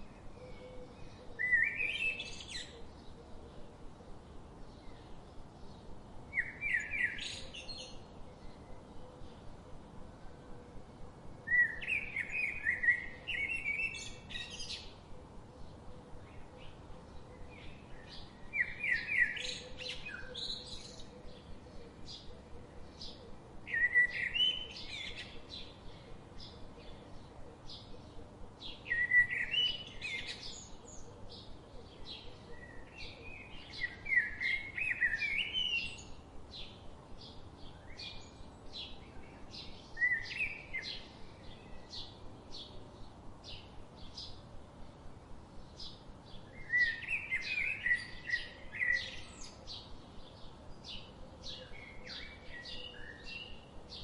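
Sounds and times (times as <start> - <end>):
songbirds warbling: 0.0 - 54.0.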